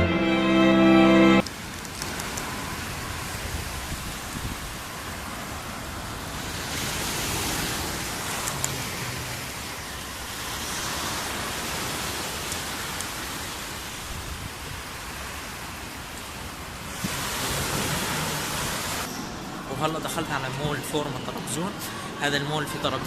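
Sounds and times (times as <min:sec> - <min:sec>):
outdoor hiss: 0:01.4 - 0:22.5.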